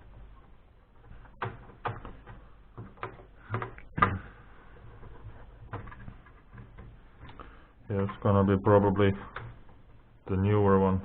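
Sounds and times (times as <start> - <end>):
computer parts knocking and clicking: 0.0 - 4.3, 4.9 - 7.4, 8.0 - 10.0.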